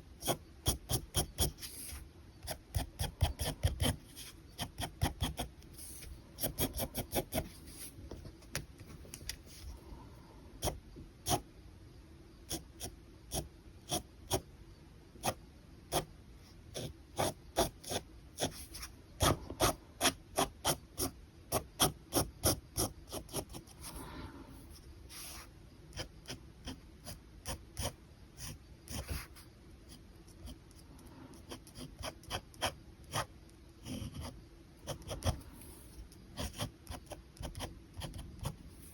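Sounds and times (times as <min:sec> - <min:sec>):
pen scratching on paper: 0:00.2 - 0:08.3, 0:10.6 - 0:11.4, 0:12.5 - 0:14.5, 0:15.2 - 0:16.1, 0:16.7 - 0:24.0, 0:24.6 - 0:38.9.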